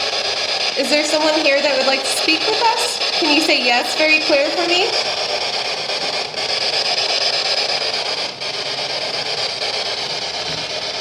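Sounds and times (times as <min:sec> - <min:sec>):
radio static rushing: 0:00.0 - 0:11.0.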